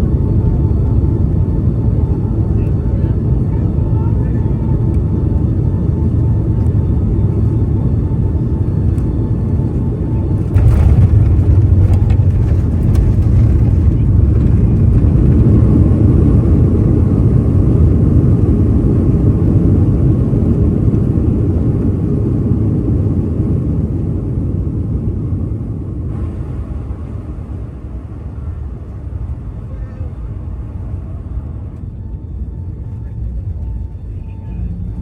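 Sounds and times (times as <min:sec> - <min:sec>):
airliner cabin deep rumble: 0:00.0 - 0:35.0.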